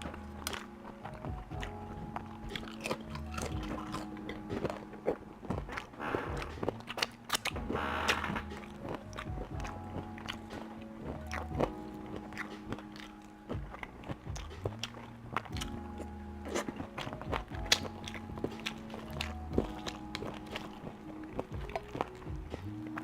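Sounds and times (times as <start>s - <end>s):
music with long held tones: 0.0s - 23.0s
person biting and chewing food: 0.0s - 23.0s.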